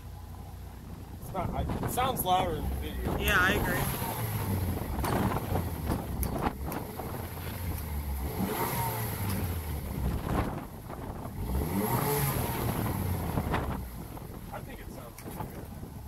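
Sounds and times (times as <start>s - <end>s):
low exhaust rumble: 0.0s - 16.0s.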